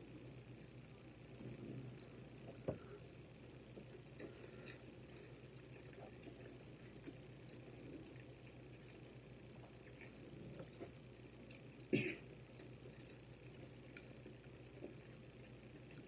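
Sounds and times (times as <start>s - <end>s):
person chewing food: 1.1s - 16.0s.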